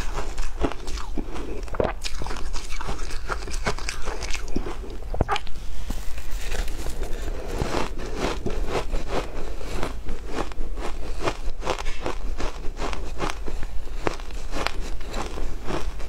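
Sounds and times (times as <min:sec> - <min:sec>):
chewing ice crunches: 0:00.0 - 0:05.5, 0:06.4 - 0:16.0.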